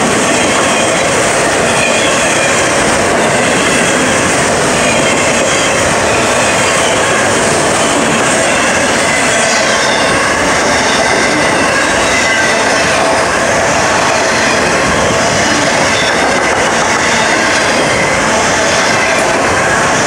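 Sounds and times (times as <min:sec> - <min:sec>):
train wheels running on rails: 0:00.0 - 0:20.0.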